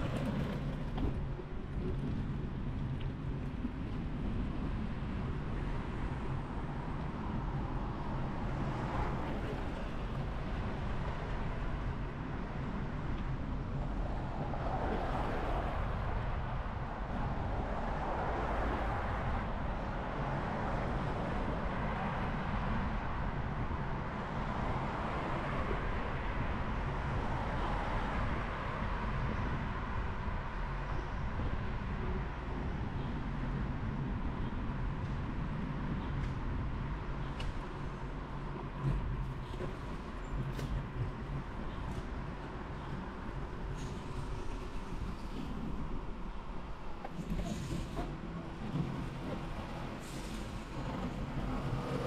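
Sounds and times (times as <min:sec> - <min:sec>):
outdoor background noise: 0:00.0 - 0:52.0
vehicle rumble and hiss: 0:00.0 - 0:52.0.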